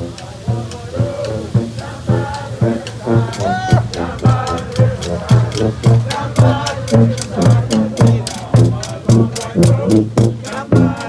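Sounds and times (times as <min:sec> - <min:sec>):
brass band horns: 0:00.0 - 0:11.0
steady drum beat: 0:00.0 - 0:11.0.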